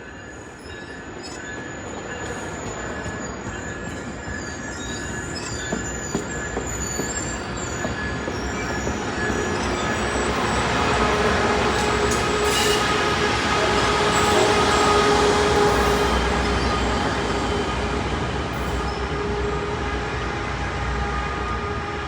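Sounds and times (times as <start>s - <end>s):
train wheels squealing: 0.0s - 19.6s
train rumbling on rails: 0.0s - 22.0s.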